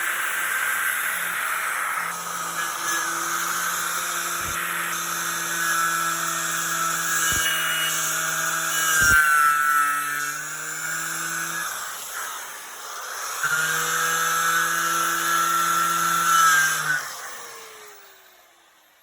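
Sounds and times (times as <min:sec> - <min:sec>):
angle grinder wire wheel whining: 0:00.0 - 0:19.0.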